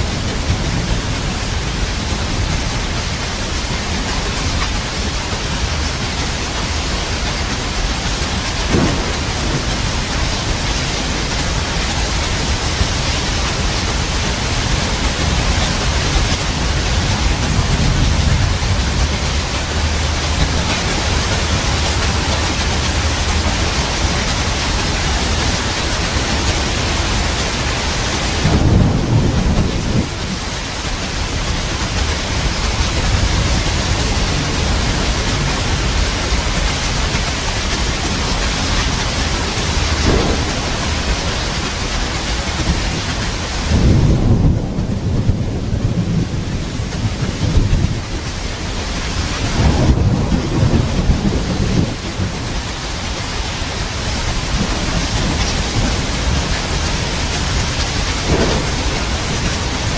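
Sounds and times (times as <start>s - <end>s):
heavy rain: 0.0s - 59.9s
thunder rumbling: 0.0s - 59.9s.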